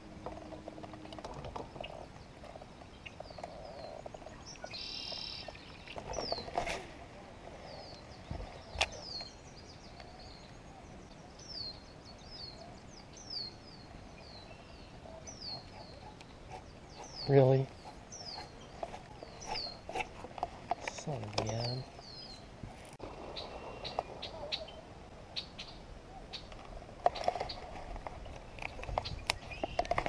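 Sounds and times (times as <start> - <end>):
small birds chirping: 0.2 - 30.0.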